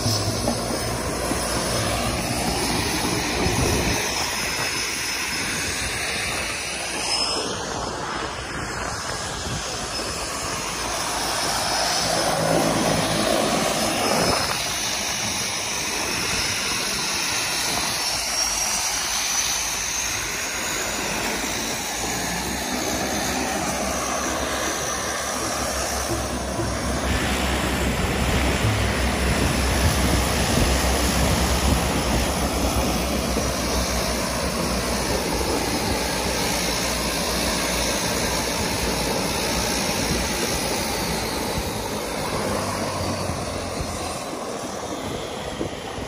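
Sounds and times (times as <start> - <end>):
high turbine whine: 0.0 - 46.0
turboprop engines roaring: 0.0 - 46.0.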